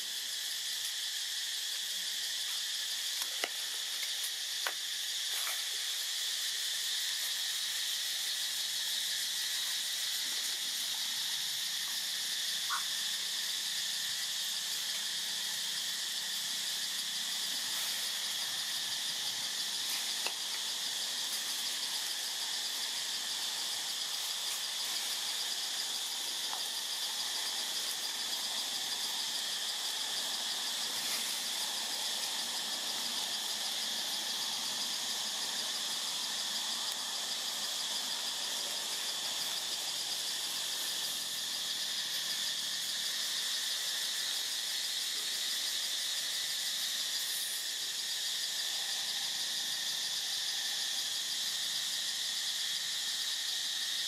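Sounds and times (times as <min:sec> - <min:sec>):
forest insects buzzing: 0:00.0 - 0:54.0.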